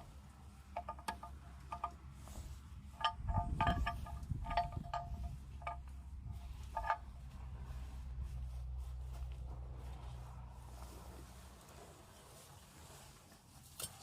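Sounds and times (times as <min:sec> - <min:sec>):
low wind rumble: 0:00.0 - 0:11.8.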